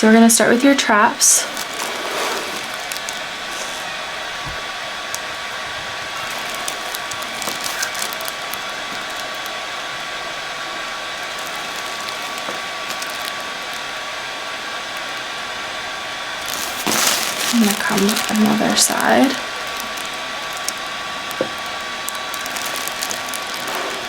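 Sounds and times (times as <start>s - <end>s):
electric massager motor buzz: 0.0s - 24.0s.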